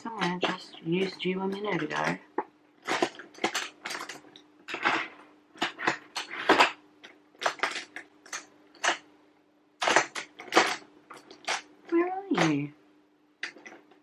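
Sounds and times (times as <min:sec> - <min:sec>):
cosmetics clattering and clinking: 0:00.0 - 0:09.1, 0:09.8 - 0:12.6, 0:13.4 - 0:14.0.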